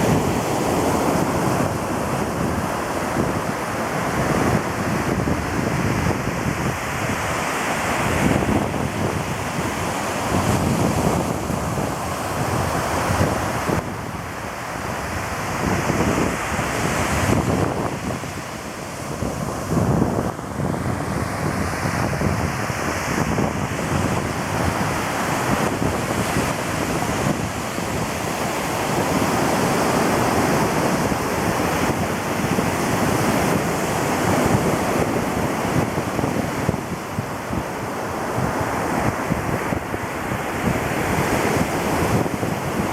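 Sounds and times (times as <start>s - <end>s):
ocean surf breaking: 0.0s - 42.9s
wind buffeting microphone: 0.0s - 42.9s.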